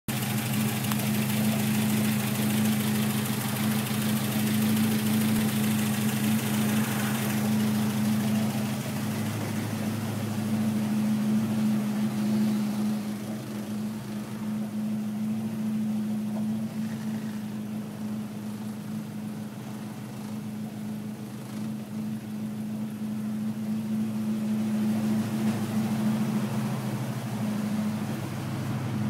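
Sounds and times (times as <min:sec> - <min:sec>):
car engine idling: 0:00.1 - 0:29.0.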